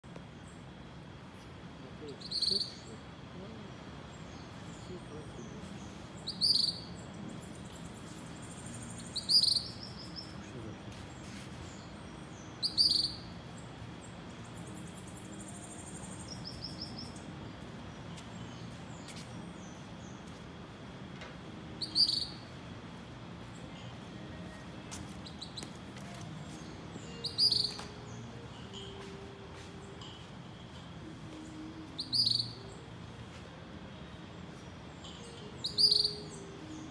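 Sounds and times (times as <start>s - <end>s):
faint bird chirps: 1.3s - 20.4s, 21.7s - 36.9s.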